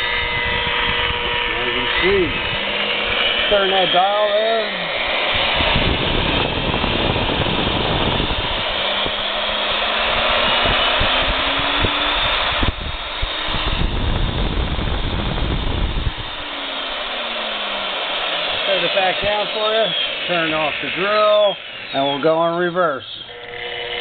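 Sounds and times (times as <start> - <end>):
drill motor whining: 0.0 - 24.0.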